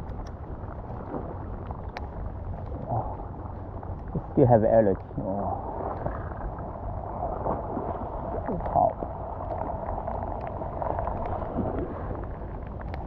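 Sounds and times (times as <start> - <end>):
light rain ticks: 0.0 - 13.0
wind rumbling on microphone: 0.0 - 13.0.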